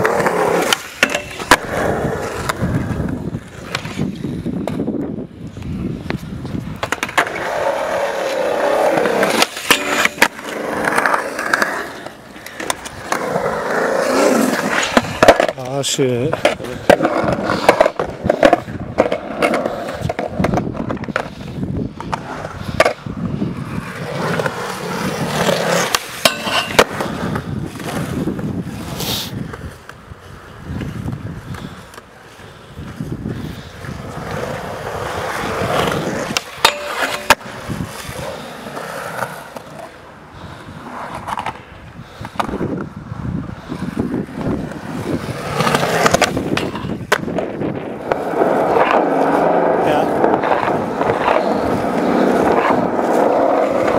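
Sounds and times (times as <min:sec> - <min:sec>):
skateboard clacks: 0:00.0 - 0:23.1, 0:23.8 - 0:28.5, 0:33.8 - 0:43.0, 0:43.6 - 0:53.9
skateboard wheels rolling on concrete: 0:00.0 - 0:53.9.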